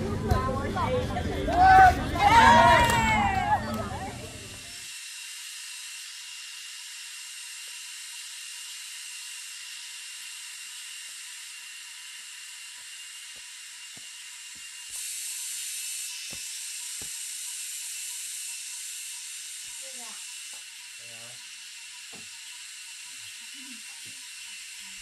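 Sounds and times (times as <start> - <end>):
steady high hissing: 0.0 - 25.0.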